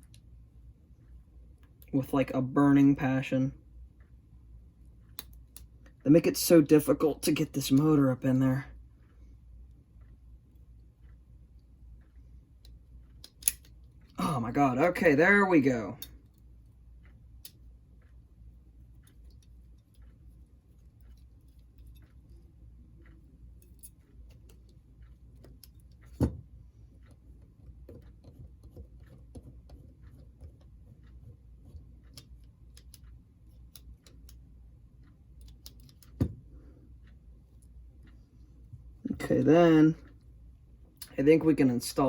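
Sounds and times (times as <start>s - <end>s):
faint clicks of small parts: 0.0s - 2.0s, 3.8s - 6.0s, 6.8s - 15.2s, 15.8s - 39.2s.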